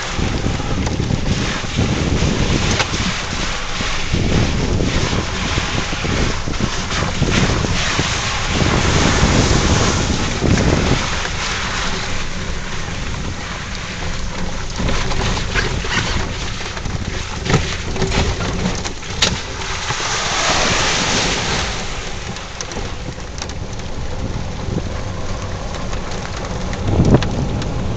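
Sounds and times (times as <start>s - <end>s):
atv engine: 0.0s - 27.9s
water washing: 0.0s - 27.9s
wind rumble on microphone: 0.0s - 27.9s.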